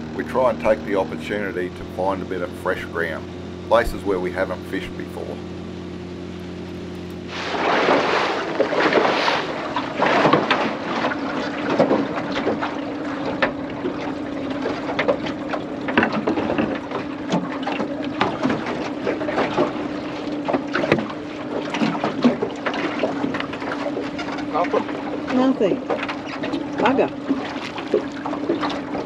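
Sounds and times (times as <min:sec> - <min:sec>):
boat hull slapping through water: 0:00.0 - 0:29.0
outboard motor droning: 0:00.0 - 0:29.0.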